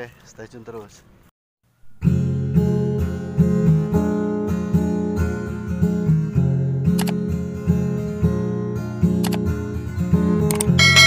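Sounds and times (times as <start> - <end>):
strummed acoustic guitar chords: 1.9 - 11.0.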